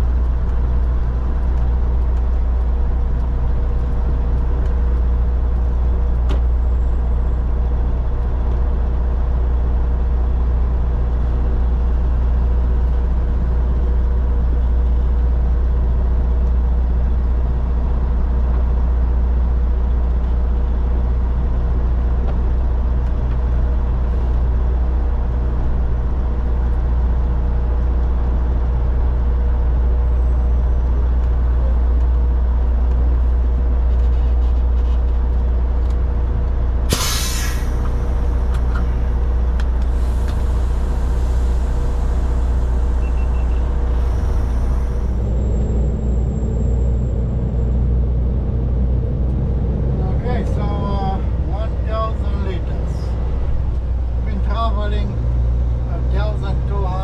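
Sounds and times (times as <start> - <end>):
truck diesel engine drone: 0.0 - 57.0.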